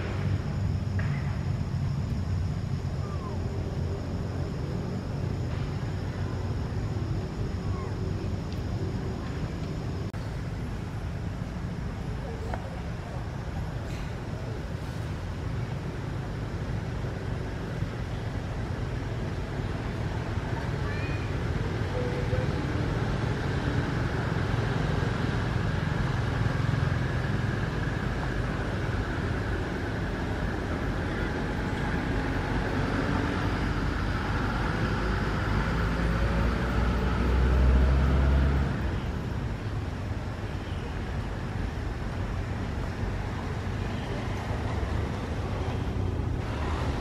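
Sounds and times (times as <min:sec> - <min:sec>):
low outdoor rumble: 0:00.0 - 0:47.0.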